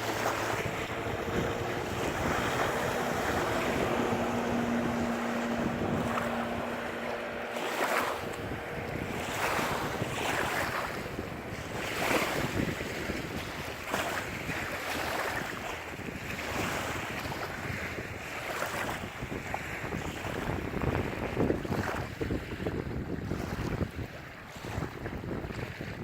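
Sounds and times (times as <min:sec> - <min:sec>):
water splashing against boat: 0:00.0 - 0:26.0
wind buffeting microphone: 0:00.0 - 0:26.0.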